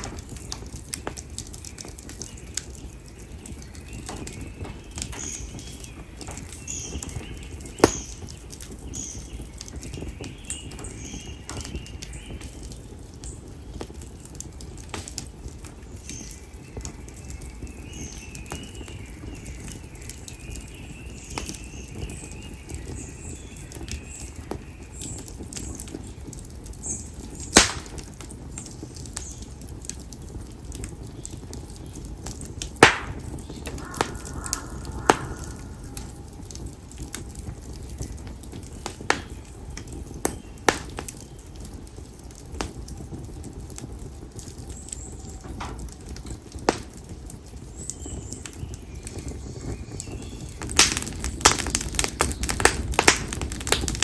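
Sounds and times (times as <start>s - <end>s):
firewood burning with pops: 0.0s - 54.0s.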